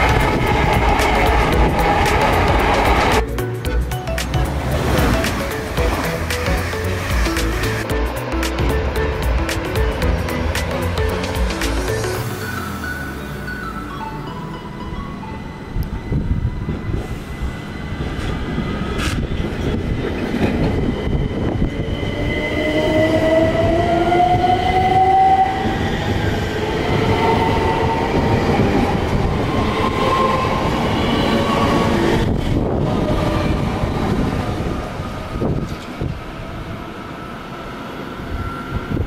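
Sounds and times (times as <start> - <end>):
electric train running on rails: 0.0 - 39.0.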